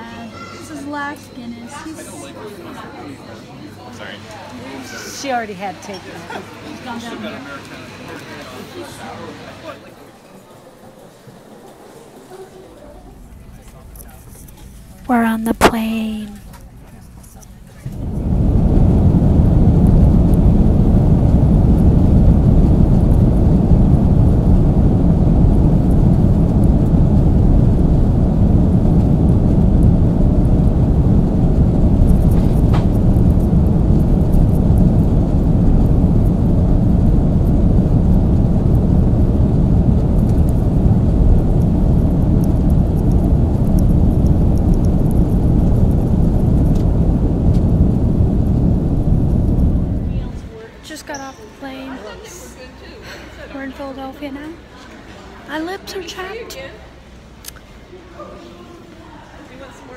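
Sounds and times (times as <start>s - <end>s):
jet engines and wheels rumbling: 3.8s - 52.7s.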